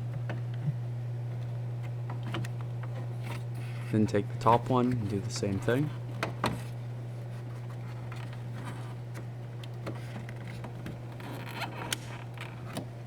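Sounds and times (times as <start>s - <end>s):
steady low hum: 0.0s - 13.0s
small clicks and scraping: 1.3s - 12.9s.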